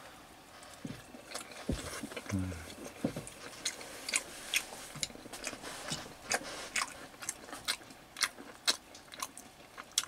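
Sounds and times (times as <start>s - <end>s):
person chewing with smacking clicks: 0.6s - 10.0s.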